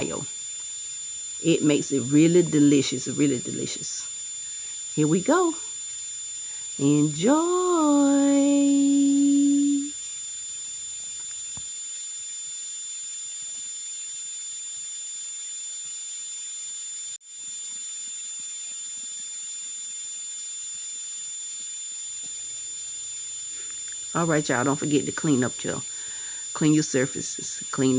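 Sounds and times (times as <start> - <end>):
high-pitched electronic whine: 0.0 - 27.9.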